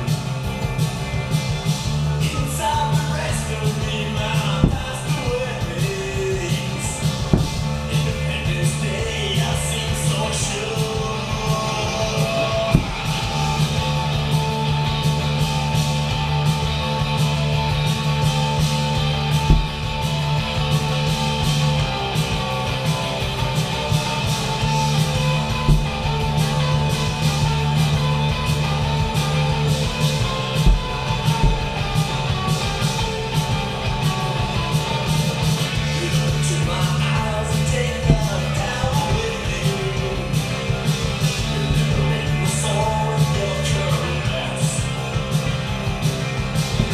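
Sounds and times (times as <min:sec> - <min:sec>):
low thumps: 0:00.0 - 0:46.9
rock music with guitar: 0:00.0 - 0:46.9.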